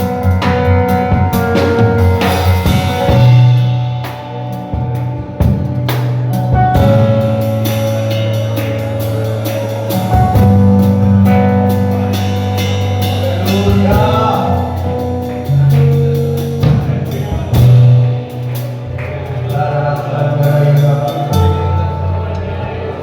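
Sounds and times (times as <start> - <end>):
drums: 0.0 - 22.4
church worship band: 0.0 - 23.0
held bass notes: 0.0 - 23.0.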